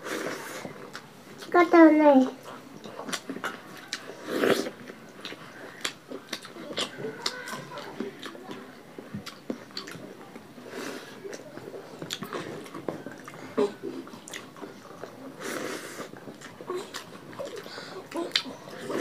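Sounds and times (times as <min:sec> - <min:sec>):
people chewing and smacking: 0:00.0 - 0:19.0.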